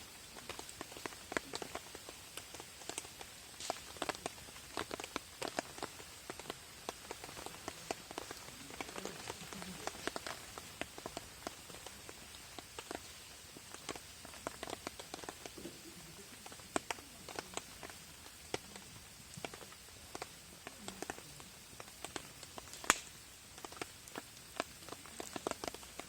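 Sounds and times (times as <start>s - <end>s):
rain drumming on a tarp: 0.0s - 26.0s.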